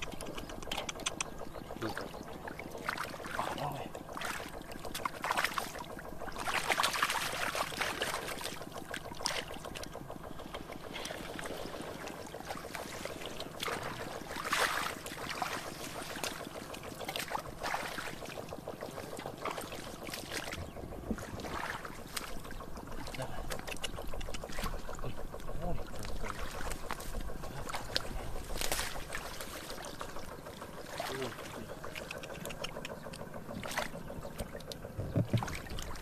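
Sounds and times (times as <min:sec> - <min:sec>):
water sloshing and splashing: 0:00.0 - 0:36.0.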